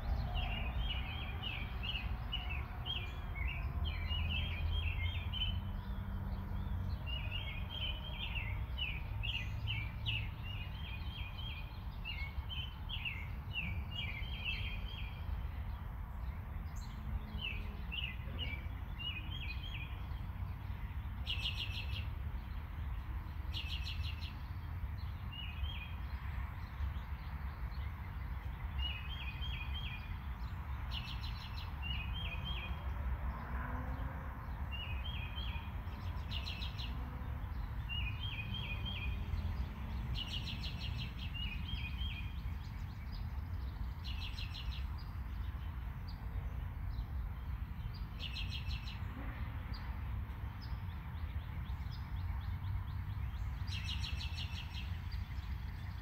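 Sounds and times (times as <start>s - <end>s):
small birds chirping: 0.0s - 33.0s, 33.9s - 49.1s, 49.7s - 56.0s.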